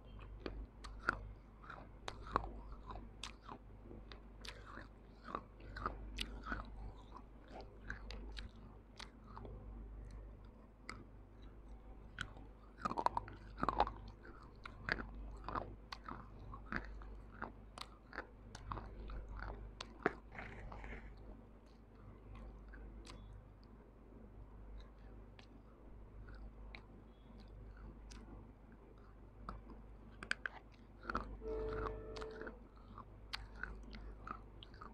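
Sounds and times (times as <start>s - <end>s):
crunching and chewing clay: 0.0s - 23.8s, 24.7s - 31.4s, 32.8s - 34.9s.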